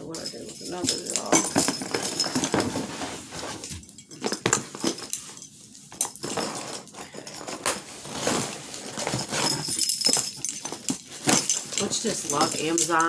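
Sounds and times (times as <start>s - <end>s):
packaging rustling and crinkling: 1.1s - 13.0s.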